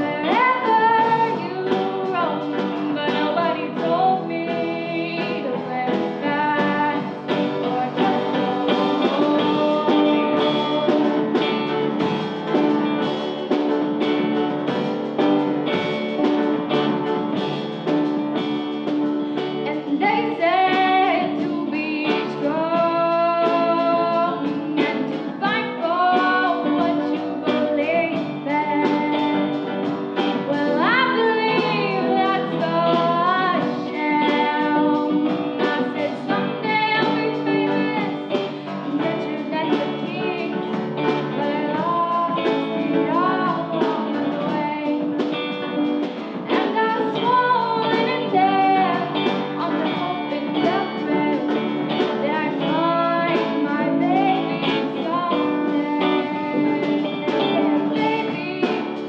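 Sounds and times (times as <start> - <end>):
young woman singing: 0.0 - 13.3, 14.0 - 59.0
instrumental accompaniment: 0.0 - 59.0.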